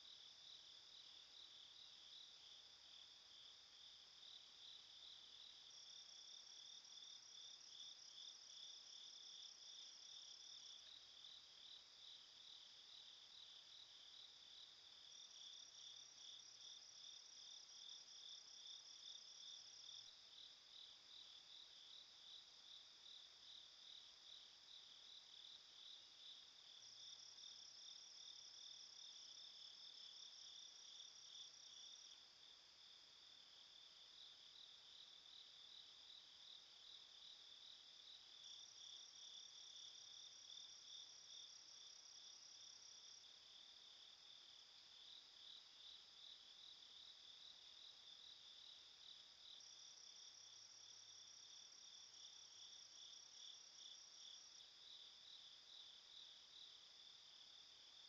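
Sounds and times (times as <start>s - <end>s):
insects chirping: 4.2s - 58.0s.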